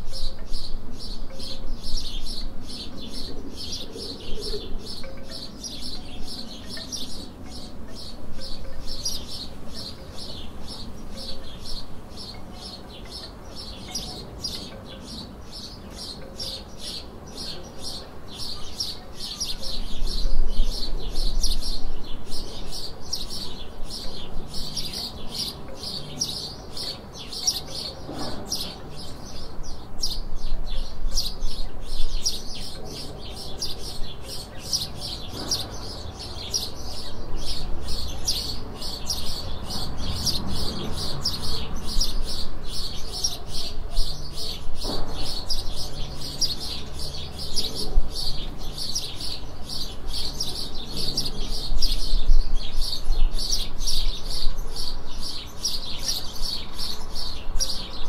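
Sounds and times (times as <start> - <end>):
birds chirping in chorus: 0.0 - 58.0.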